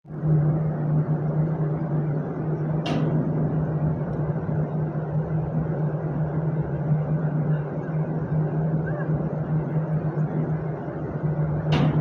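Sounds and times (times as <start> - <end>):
ship machinery humming: 0.1 - 12.0.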